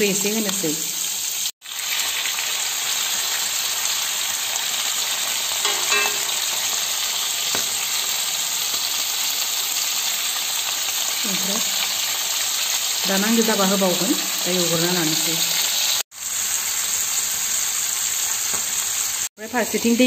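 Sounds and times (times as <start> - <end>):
food frying in oil: 0.0 - 20.0.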